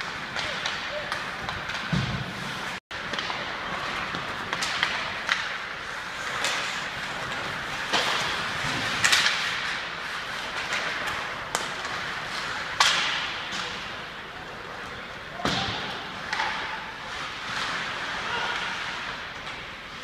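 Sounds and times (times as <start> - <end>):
skates scraping on ice: 0.0 - 20.0.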